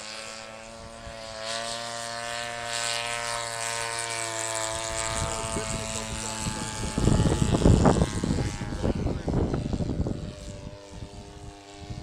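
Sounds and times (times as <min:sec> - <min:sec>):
model airplane engine running: 0:00.0 - 0:12.0.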